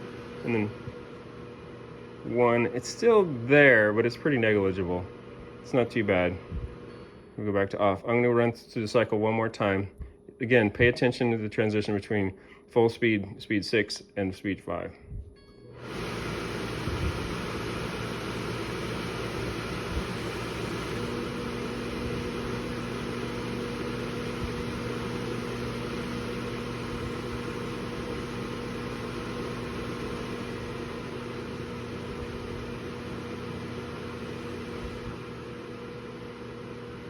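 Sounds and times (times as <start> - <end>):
vent fan rushing air: 0.0 - 7.6, 15.0 - 37.0
fan motor low hum: 0.0 - 13.6, 14.7 - 37.0.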